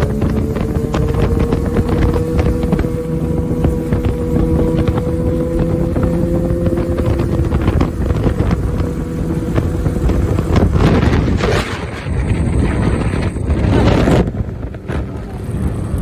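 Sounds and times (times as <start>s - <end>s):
motorcycle engine running low: 0.0s - 16.0s
wind buffeting microphone: 0.0s - 16.0s.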